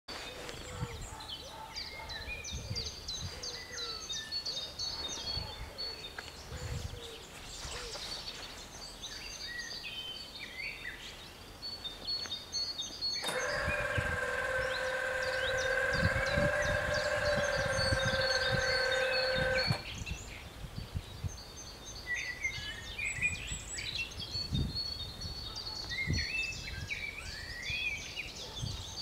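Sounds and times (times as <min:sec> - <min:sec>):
birds singing and chirping: 0:00.1 - 0:29.0.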